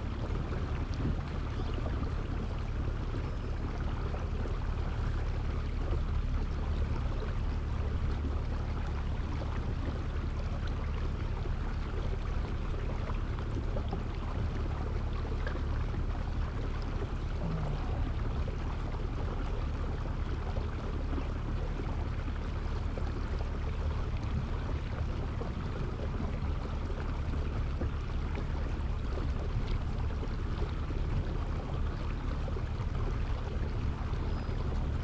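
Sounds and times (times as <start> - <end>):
low rumble: 0.0 - 35.0
wind: 0.0 - 35.0.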